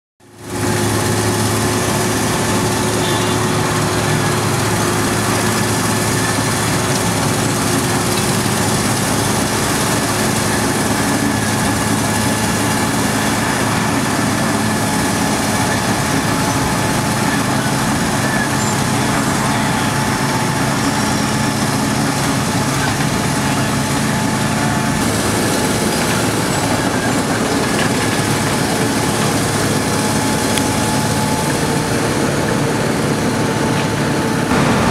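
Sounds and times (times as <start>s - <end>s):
cold planer grinding pavement: 0.2s - 34.9s.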